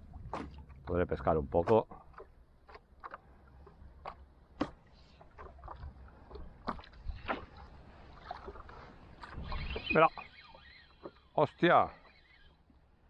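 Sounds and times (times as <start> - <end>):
small waves lapping on hull: 0.0 - 13.0.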